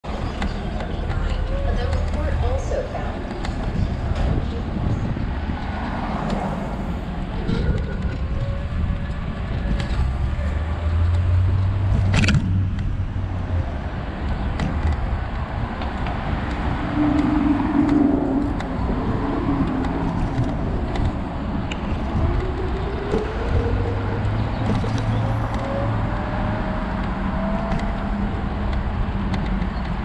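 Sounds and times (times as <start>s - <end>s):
cars driving past: 0.1s - 30.0s
low rumble: 0.2s - 29.7s.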